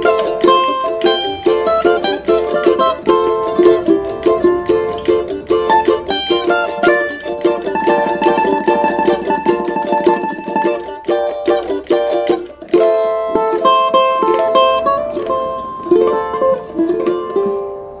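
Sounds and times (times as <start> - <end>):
small plucked string instrument: 0.0 - 18.0.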